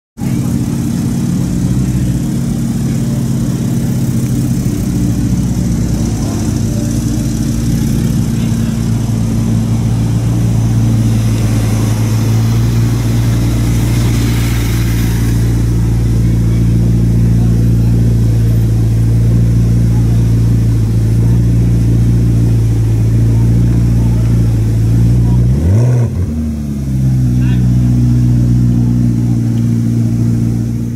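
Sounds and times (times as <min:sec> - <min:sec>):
sports car engine idling: 0:00.2 - 0:30.9.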